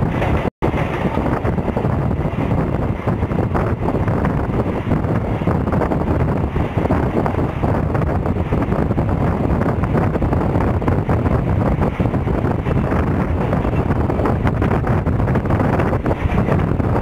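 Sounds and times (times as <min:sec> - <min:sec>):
electric train rumbling: 0:00.0 - 0:17.0
wind buffeting microphone: 0:00.0 - 0:17.0.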